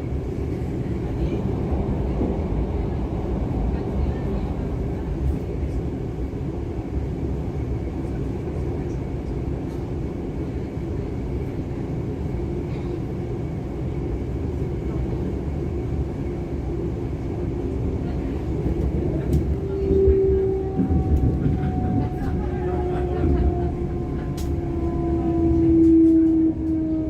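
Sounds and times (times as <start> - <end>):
faint carriage hum: 0.0 - 27.0
train wheels rumbling on track: 0.0 - 27.0.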